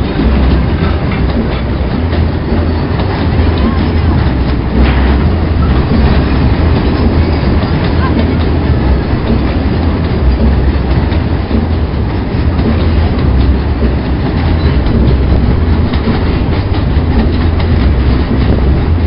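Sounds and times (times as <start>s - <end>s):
freight train rumbling: 0.0s - 19.0s
wheels clacking over rail joints: 0.0s - 19.0s.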